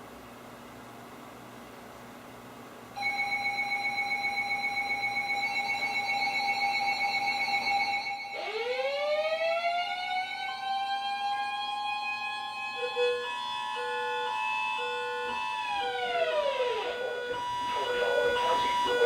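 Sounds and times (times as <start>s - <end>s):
on-off beeping alarm: 3.0s - 19.0s
siren-style alert: 3.0s - 19.0s
steady alarm tone: 3.0s - 19.0s.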